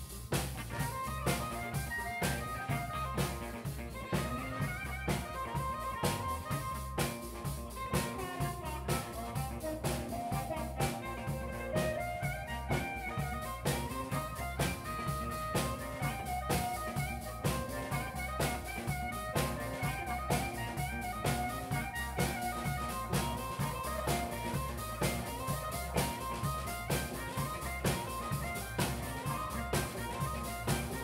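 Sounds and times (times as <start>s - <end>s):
blues band playing: 0.0s - 31.0s
harmonica lead notes: 0.0s - 31.0s.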